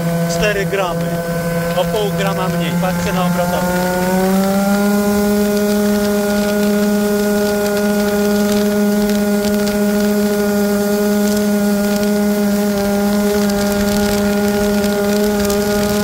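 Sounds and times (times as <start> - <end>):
two-stroke scooter engine at high revs: 0.0 - 16.0.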